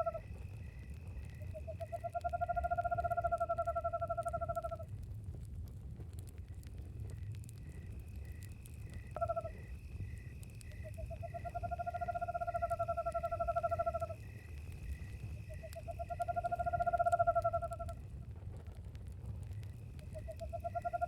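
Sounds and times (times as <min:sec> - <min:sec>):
crickets chirping: 0:00.0 - 0:04.9, 0:06.4 - 0:18.4, 0:19.2 - 0:21.0
campfire crackling: 0:00.0 - 0:21.0.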